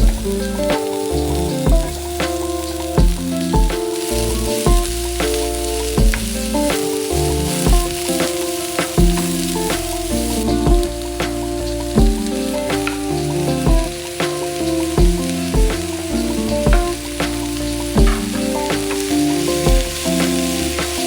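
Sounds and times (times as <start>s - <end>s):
background music with bass and drums: 0.0s - 21.0s
noodles sizzling in a pan: 0.2s - 21.0s.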